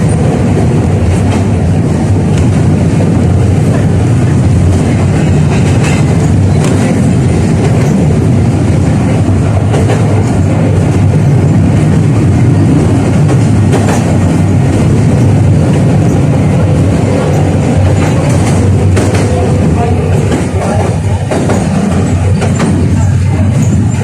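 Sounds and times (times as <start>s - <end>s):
tram wheels rumbling on rail: 0.0s - 24.0s.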